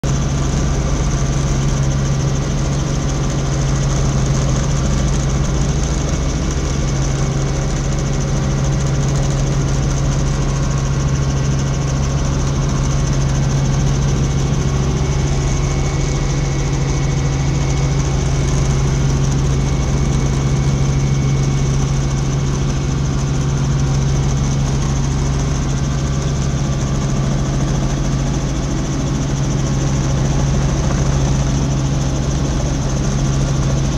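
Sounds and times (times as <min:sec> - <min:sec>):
helicopter engine and rotors droning: 0:00.0 - 0:33.9.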